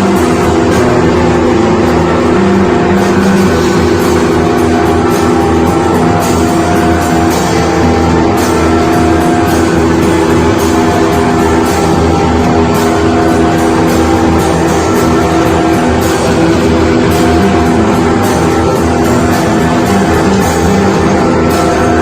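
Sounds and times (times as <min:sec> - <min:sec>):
band playing noise rock: 0:00.0 - 0:22.0
electric guitar: 0:00.0 - 0:22.0.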